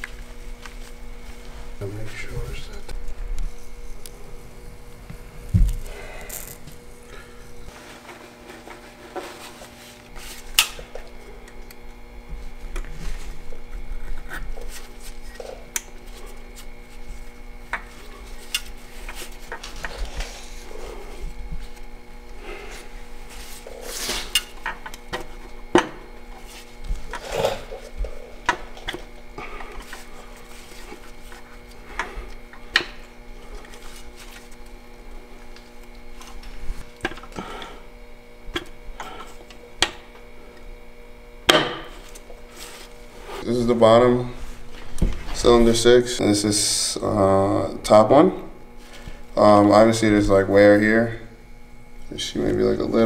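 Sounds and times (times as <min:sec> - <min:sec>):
steady background hum: 0:00.0 - 0:53.0.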